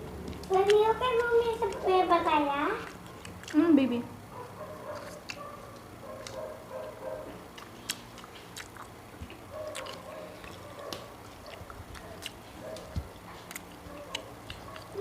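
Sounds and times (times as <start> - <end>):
chewing and biting food: 0.0 - 2.0, 2.8 - 3.7, 4.4 - 15.0.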